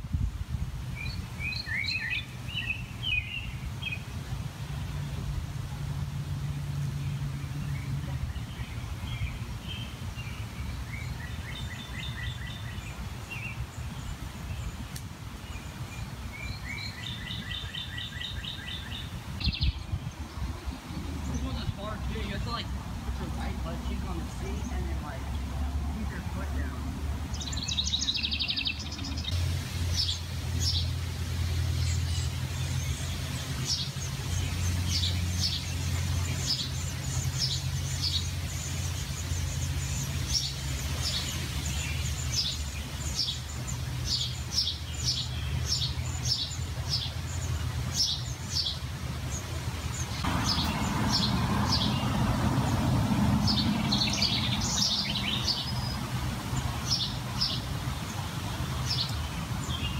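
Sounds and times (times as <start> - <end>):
small birds chirping: 0.9 - 5.4, 7.0 - 59.9.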